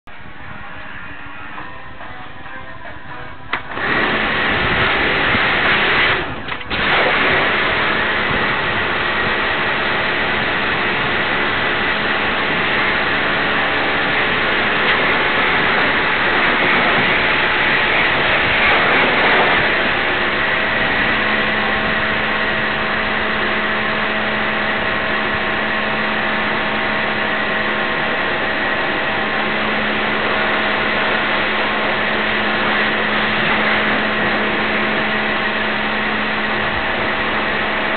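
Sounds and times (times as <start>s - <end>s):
motor hum: 0.1s - 37.9s
pressure washer jet hissing: 3.6s - 37.9s.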